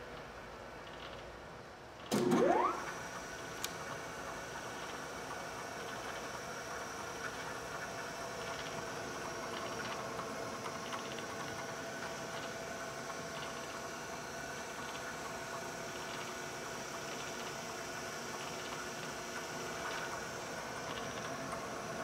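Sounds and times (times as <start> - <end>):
milling machine humming: 2.1 - 22.0.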